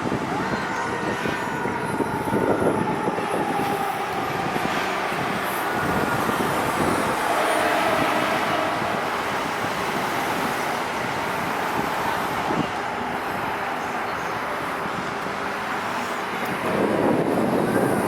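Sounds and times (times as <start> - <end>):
fire engine rumble: 0.0 - 18.0
surrounding traffic: 0.0 - 18.0.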